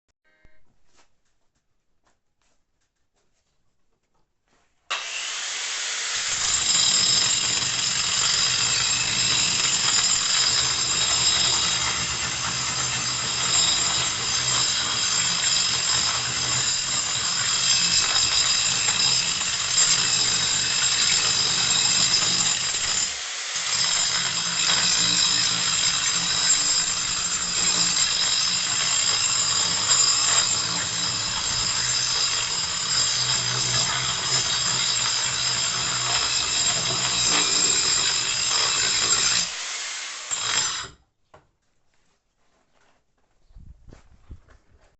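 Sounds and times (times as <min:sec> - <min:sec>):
power tool motor whine: 0:04.9 - 0:40.9.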